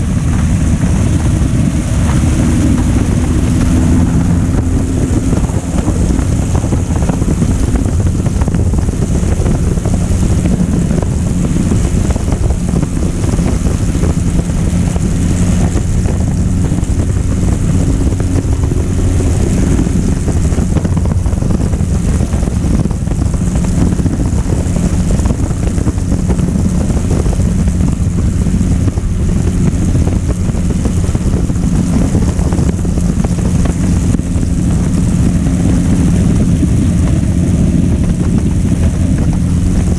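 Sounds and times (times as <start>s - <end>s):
propeller plane engine drone: 0.0s - 39.9s
wind noise on microphone: 0.0s - 39.9s.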